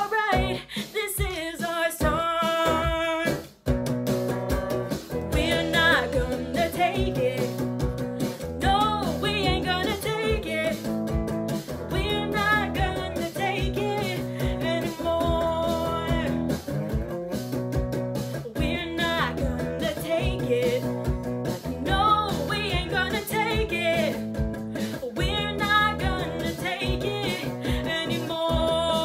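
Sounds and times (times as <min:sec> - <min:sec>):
woman singing rock song: 0:00.0 - 0:03.5, 0:04.8 - 0:17.2, 0:18.3 - 0:29.0
steady beat: 0:00.0 - 0:29.0
electric guitar strumming: 0:02.0 - 0:29.0.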